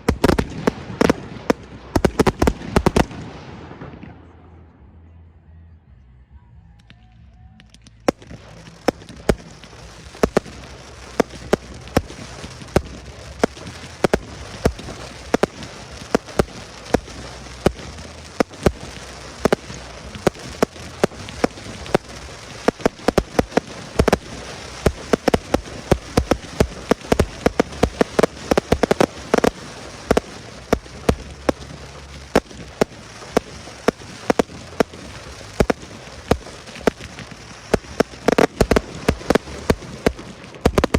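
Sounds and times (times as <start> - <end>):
fireworks crackling hiss: 0.0 - 4.1, 7.8 - 40.9
fireworks bangs: 0.0 - 4.8, 8.1 - 40.9.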